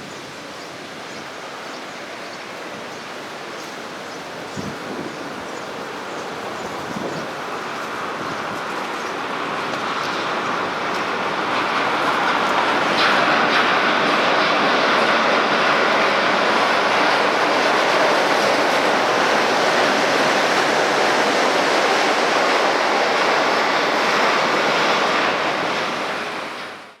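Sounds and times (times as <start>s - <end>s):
monorail train running: 0.0s - 27.0s.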